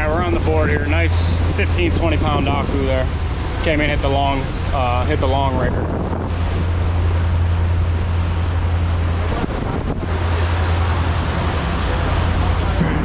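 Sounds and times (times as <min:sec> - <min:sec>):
boat engine low drone: 0:00.0 - 0:13.0
rushing water: 0:00.0 - 0:13.0
wind hiss on microphone: 0:00.0 - 0:13.0.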